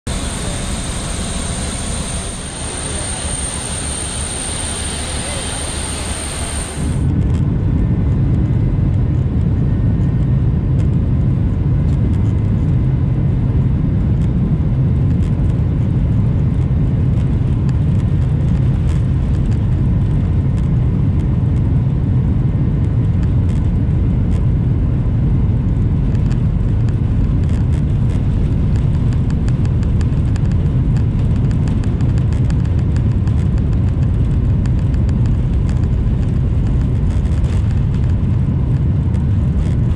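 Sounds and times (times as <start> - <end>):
jet engines rumbling: 0.1 - 39.9.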